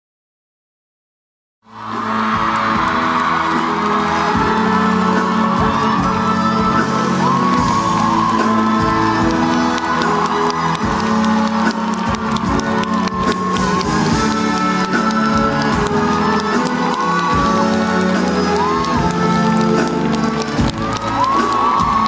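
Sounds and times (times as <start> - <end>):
audience cheering and clapping: 1.7 - 22.0
curtain-call music: 1.7 - 22.0.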